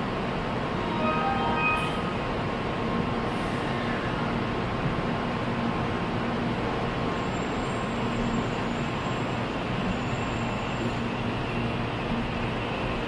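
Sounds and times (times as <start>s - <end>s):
train passing with rushing rumble: 0.0s - 13.0s.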